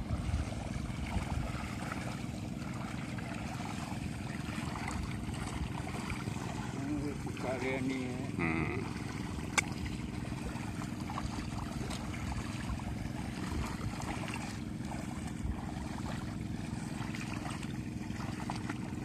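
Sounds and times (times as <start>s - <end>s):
steady low hum: 0.0s - 19.0s
weeders sloshing through mud: 0.0s - 19.0s
small splashes and knocks: 0.1s - 8.2s, 8.8s - 19.0s.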